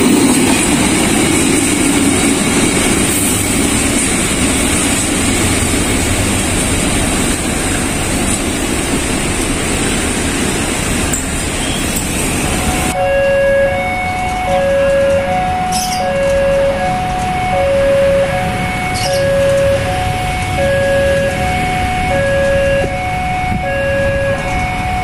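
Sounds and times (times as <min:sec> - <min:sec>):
freight train rolling on rails: 0:00.0 - 0:25.0.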